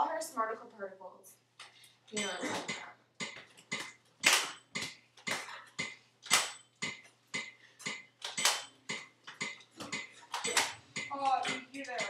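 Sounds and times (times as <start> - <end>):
sharp clattering hits: 2.1 - 12.0.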